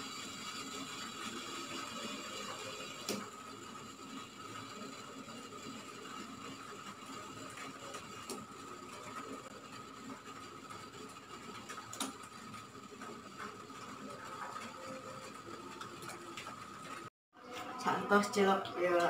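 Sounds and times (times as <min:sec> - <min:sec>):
boiling water hiss: 0:00.0 - 0:19.0.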